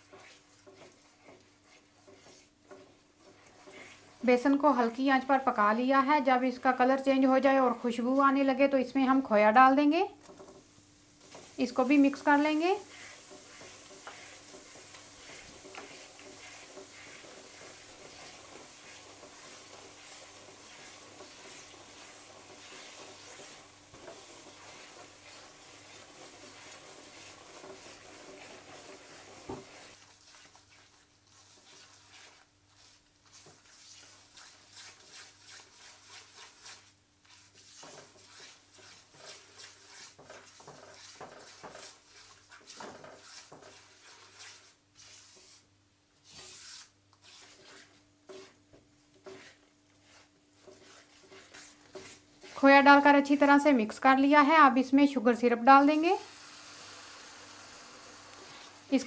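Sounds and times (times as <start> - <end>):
spatula scraping a pan: 0.0 - 5.8, 10.3 - 54.6
soft hiss: 10.1 - 55.0, 55.6 - 59.0.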